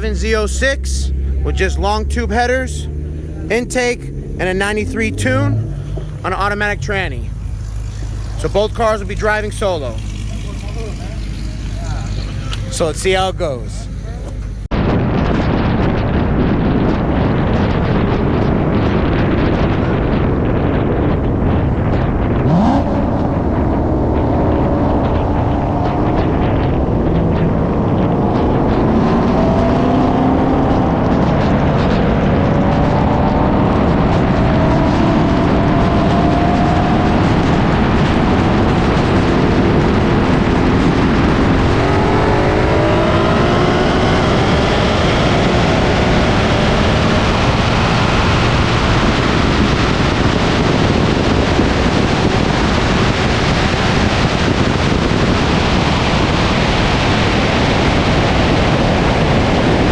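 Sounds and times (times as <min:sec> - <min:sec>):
sports car engines at full throttle: 0:00.0 - 0:59.9
wind and road rush: 0:00.0 - 0:59.9.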